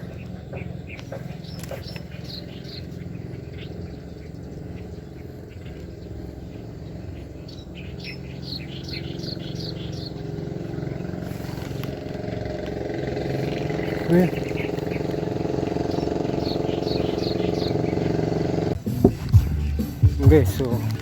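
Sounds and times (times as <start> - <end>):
low engine hum: 0.0 - 21.0
small bird chirping: 0.0 - 21.0.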